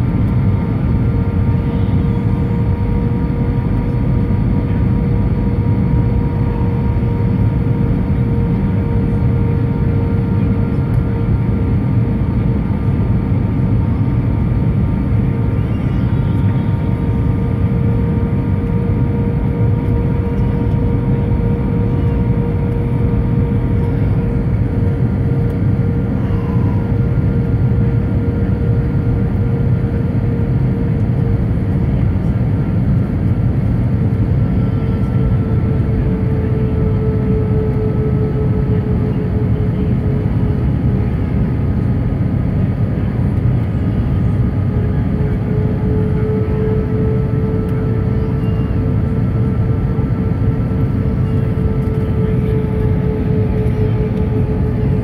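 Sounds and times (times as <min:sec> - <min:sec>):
airplane cabin noise: 0:00.0 - 0:55.0.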